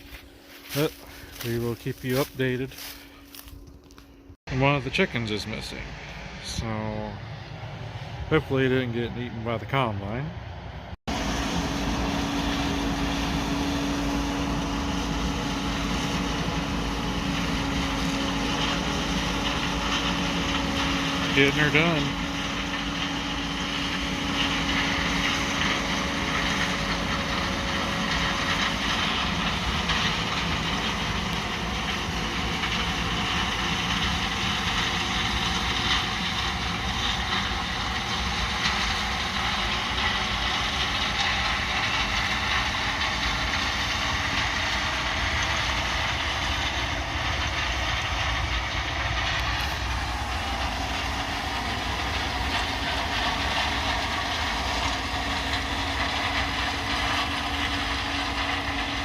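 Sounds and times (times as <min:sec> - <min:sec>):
combine harvester drone and clatter: 0:00.0 - 0:59.0.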